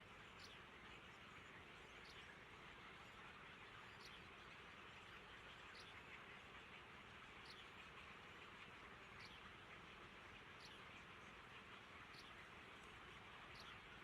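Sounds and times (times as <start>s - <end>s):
low steady hiss: 0.0s - 14.0s
faint bird chirps: 0.2s - 8.0s, 10.5s - 14.0s.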